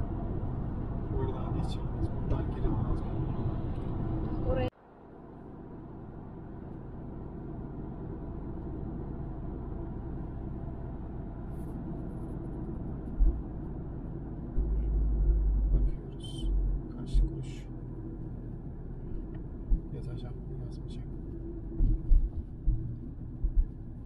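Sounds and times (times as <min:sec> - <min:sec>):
deep rumbles: 0:00.0 - 0:04.7, 0:06.7 - 0:24.0
road and engine noise inside car: 0:00.0 - 0:24.0.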